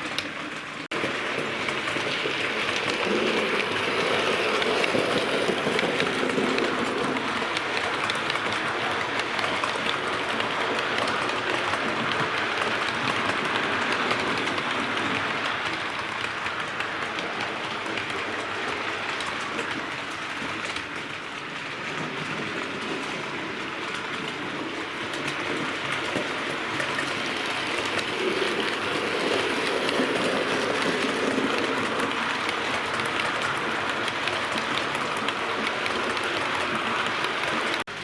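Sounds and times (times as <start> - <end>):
model train rolling on rails: 0.0 - 38.0.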